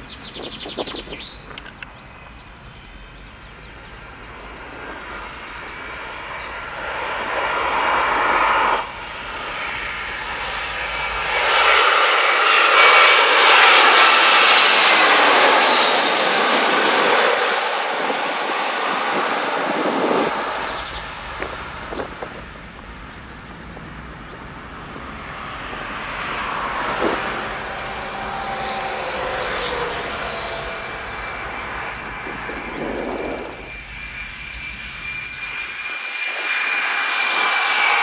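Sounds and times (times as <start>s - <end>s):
airliner jet engines: 0.0s - 38.0s.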